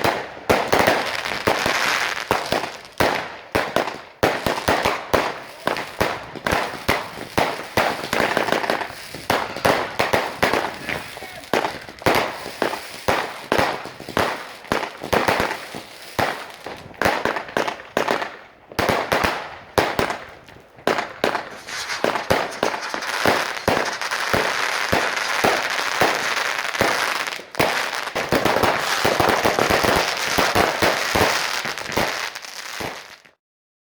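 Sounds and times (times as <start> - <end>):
firecrackers banging: 0.0 - 33.0.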